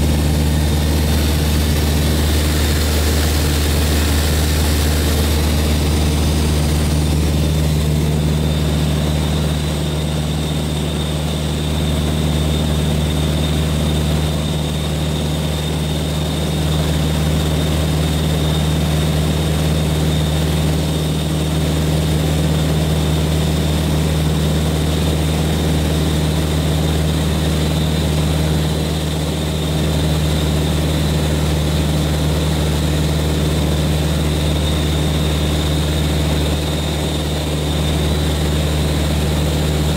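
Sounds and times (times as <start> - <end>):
aircraft engine and propeller droning: 0.0 - 39.9
steady high whine: 0.0 - 39.9.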